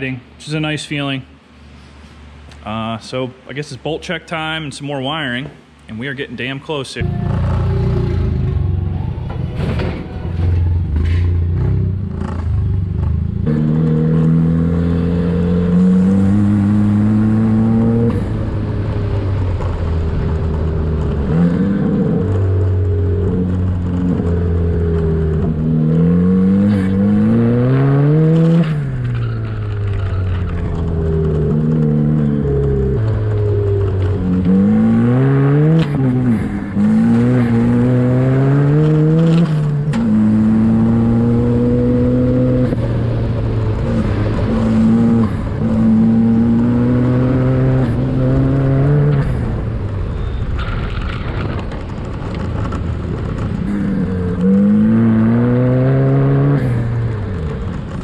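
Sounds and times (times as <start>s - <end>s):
buggy engine revving: 7.0s - 58.0s.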